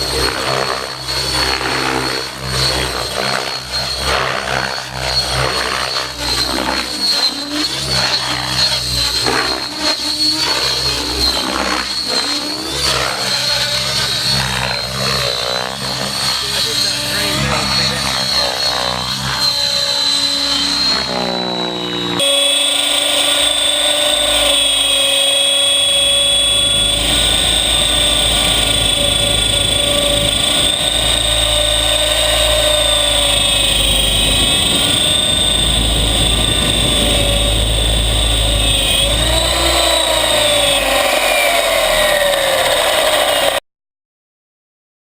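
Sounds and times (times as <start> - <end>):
radio-controlled helicopter whine: 0.0 - 43.6.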